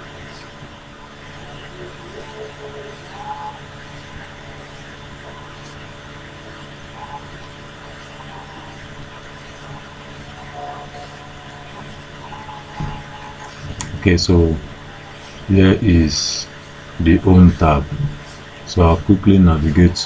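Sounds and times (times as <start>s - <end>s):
background hum and hiss: 0.0s - 20.0s.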